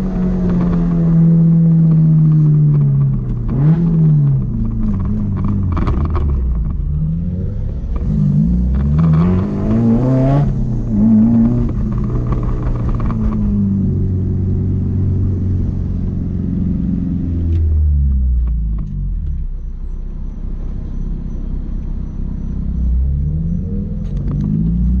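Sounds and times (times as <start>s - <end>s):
car engine running and revving: 0.0s - 25.0s.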